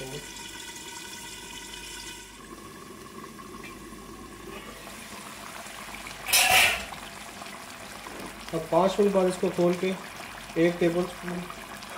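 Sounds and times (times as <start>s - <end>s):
food hissing and bubbling in pan: 0.0s - 11.9s.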